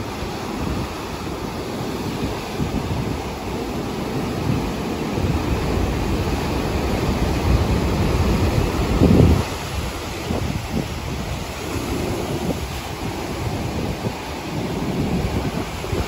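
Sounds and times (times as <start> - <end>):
surf crashing onto rocks: 0.0 - 16.0
wind buffeting microphone: 0.0 - 16.0.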